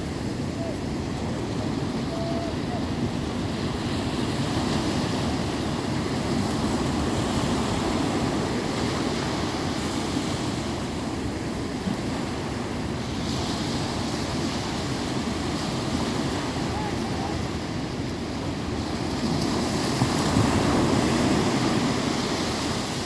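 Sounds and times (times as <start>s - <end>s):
sea surf washing ashore: 0.0s - 23.0s
wind buffeting microphone: 0.0s - 23.0s.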